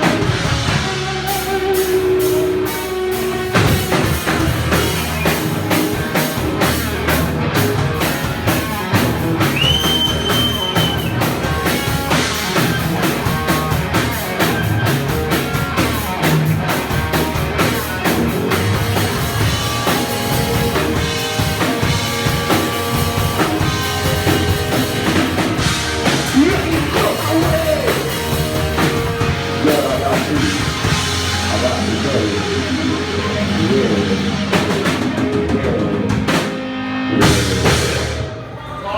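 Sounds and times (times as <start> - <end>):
drum kit beat: 0.0 - 38.5
rock band playing loud: 0.0 - 38.8.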